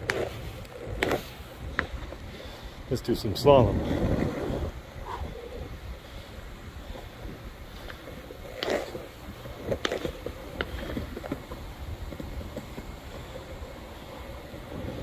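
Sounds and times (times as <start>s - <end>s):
skateboard wheels rolling on concrete: 0.0s - 15.0s
wind on microphone: 0.0s - 15.0s.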